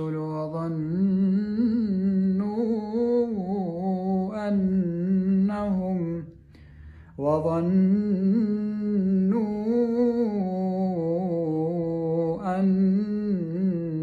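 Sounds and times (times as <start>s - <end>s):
man reciting melodically: 0.0s - 6.4s, 7.0s - 14.0s.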